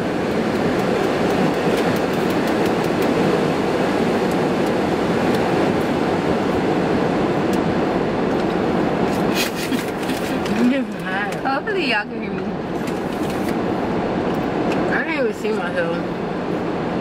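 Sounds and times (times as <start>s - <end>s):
car air conditioning blower: 0.0s - 17.0s.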